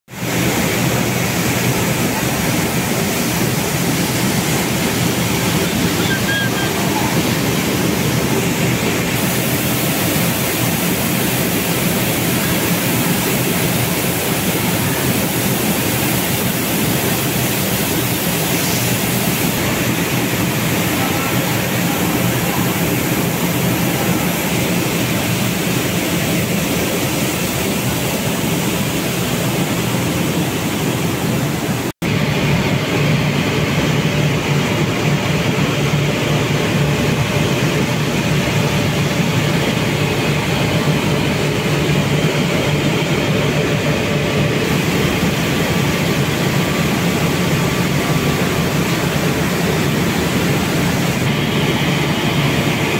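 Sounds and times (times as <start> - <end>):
rice mill machinery rushing: 0.1 - 52.9.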